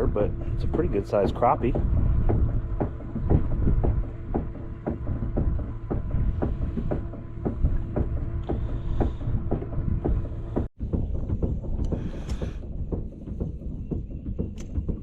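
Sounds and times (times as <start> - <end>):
knocks like waves on a hull: 0.0 - 15.0
low motor hum: 0.0 - 15.0.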